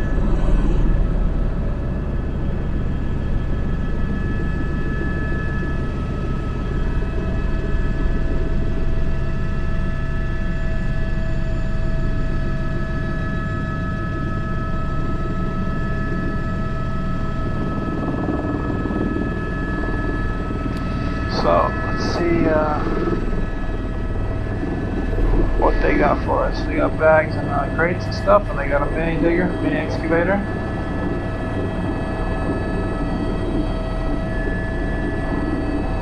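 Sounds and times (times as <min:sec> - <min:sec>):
helicopter rotor and turbine drone: 0:00.0 - 0:36.0
high turbine whine: 0:00.0 - 0:36.0.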